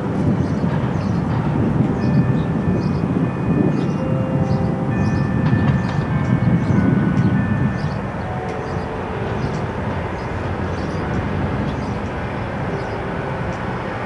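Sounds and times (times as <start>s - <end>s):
faint engine hum: 0.0s - 14.0s
street traffic rumble: 0.0s - 14.0s
wind buffeting microphone: 0.0s - 14.0s.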